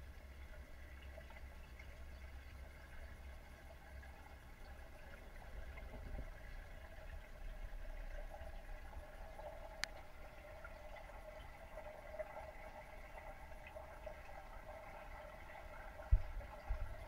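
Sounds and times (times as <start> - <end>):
muffled underwater hum: 0.1 - 17.0.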